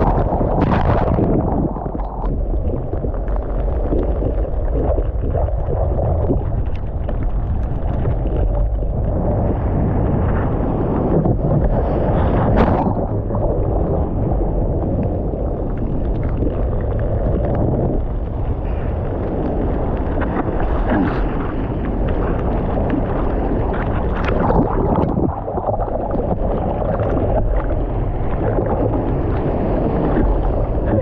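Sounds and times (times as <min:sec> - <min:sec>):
rushing churning water: 0:00.0 - 0:31.0
wind buffeting microphone: 0:00.0 - 0:31.0.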